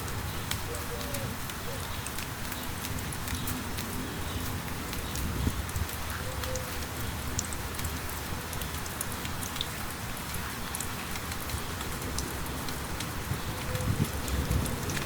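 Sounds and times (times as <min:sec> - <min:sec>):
light rain falling: 0:00.0 - 0:15.0
raindrops ticking: 0:00.0 - 0:15.0.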